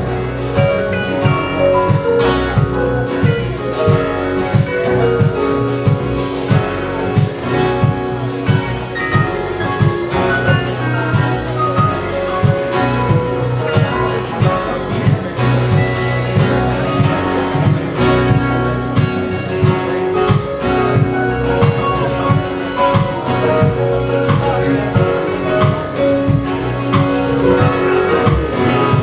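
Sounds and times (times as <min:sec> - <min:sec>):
guitar: 0:00.0 - 0:29.0
instrumental gospel music: 0:00.0 - 0:29.0.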